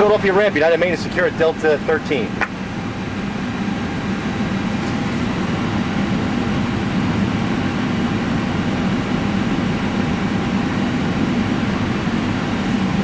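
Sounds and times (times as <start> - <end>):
auxiliary power unit drone: 0.0 - 13.0.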